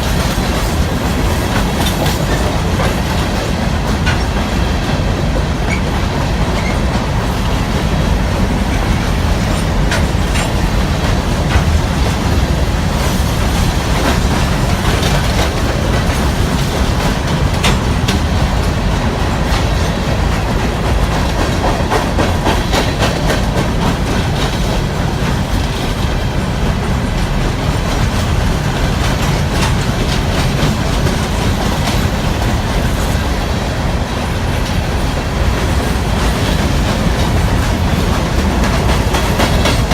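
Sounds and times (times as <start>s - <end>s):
freight train rumble: 0.0s - 39.9s
wheels clacking over rail joints: 0.0s - 39.9s.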